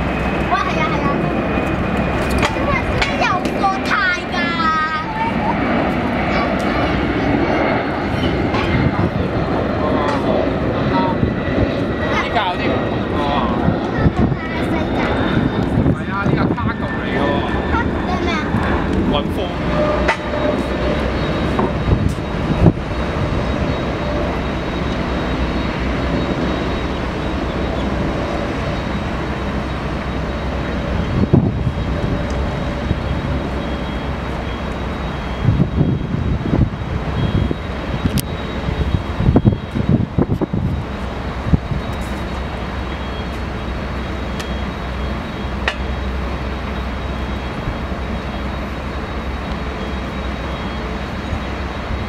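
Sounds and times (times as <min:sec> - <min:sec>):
faint high whine: 0:00.0 - 0:52.0
jet aircraft rumble: 0:00.0 - 0:52.0.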